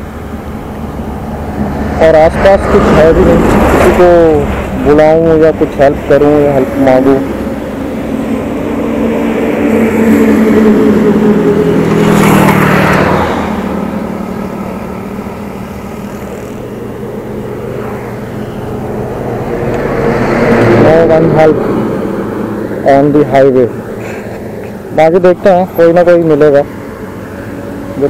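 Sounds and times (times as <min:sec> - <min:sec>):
highway traffic passing: 0:00.0 - 0:28.0.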